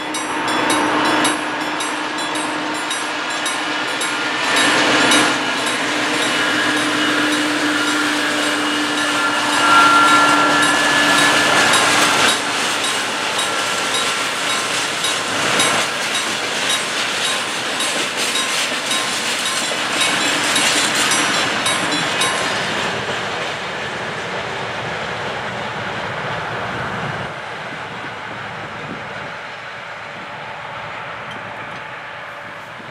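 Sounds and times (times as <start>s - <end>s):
diesel locomotive engine running: 0.0s - 32.9s.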